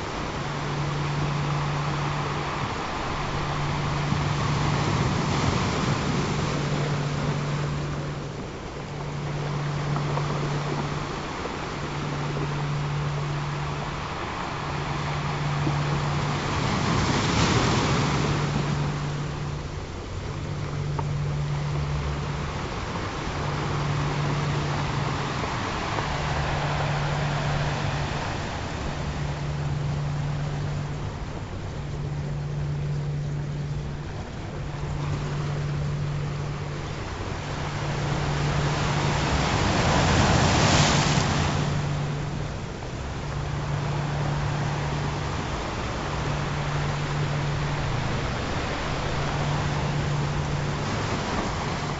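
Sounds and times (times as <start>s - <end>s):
low pulsing tone: 0.0s - 51.9s
ocean surf washing: 0.0s - 51.9s
waves breaking: 0.0s - 51.9s.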